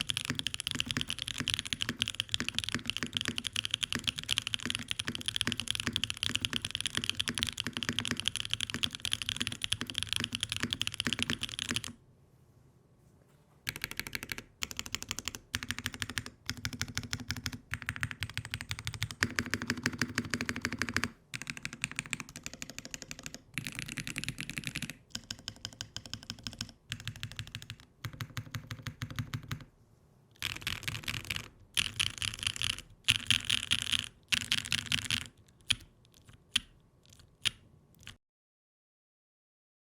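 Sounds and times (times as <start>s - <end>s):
mechanical keyboard typing: 0.0s - 12.0s, 13.7s - 29.7s, 30.4s - 38.2s.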